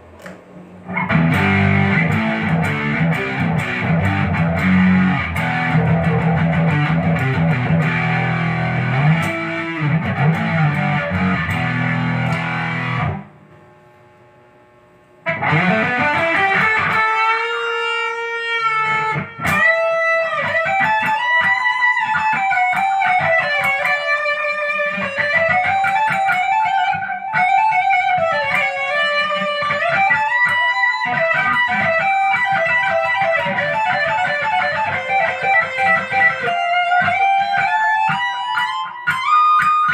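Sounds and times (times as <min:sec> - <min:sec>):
guitar lead melody: 0:00.0 - 0:13.4, 0:15.2 - 0:39.9
distorted electric guitar riff: 0:00.0 - 0:39.9.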